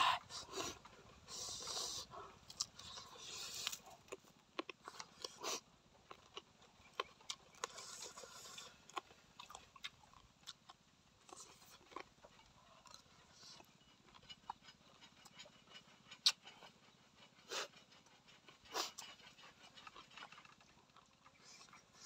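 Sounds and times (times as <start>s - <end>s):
man chewing: 0.0s - 22.0s.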